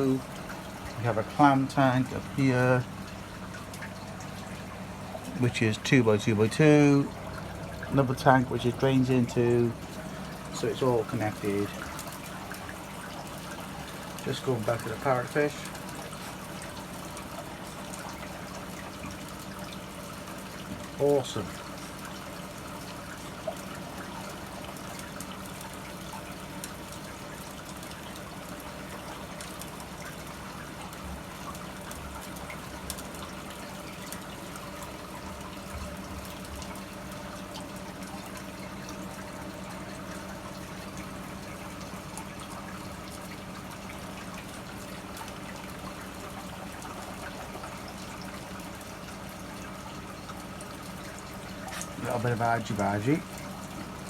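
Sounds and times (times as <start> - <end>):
low pump hum: 0.0 - 54.0
water trickling and splashing: 0.0 - 54.0.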